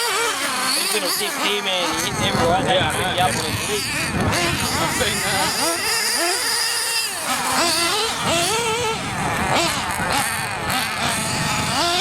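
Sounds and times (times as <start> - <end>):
small nitro engine revving: 0.0 - 12.0.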